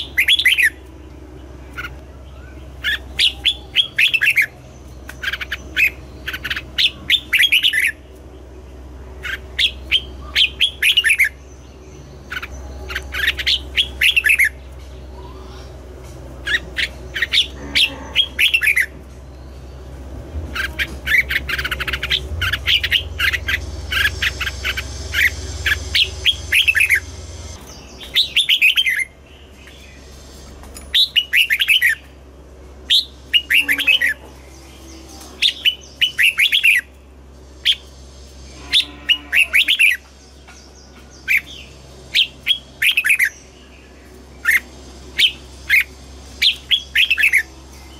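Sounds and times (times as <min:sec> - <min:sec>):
bird singing warbled notes: 0:00.0 - 0:32.2, 0:32.8 - 0:47.9.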